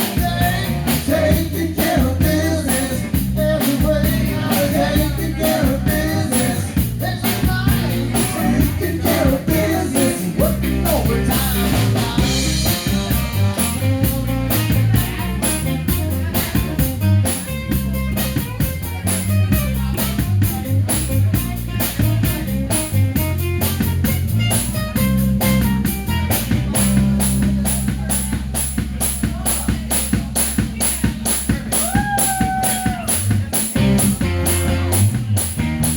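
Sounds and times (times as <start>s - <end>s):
rock band playing live: 0.0s - 35.9s.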